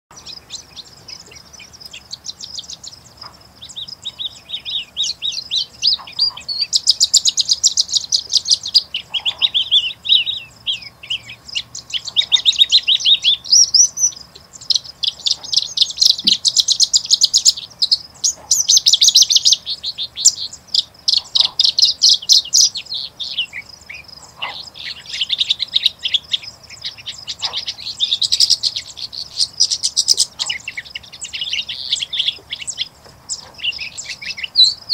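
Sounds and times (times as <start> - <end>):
bird singing trills: 0.1 - 34.9.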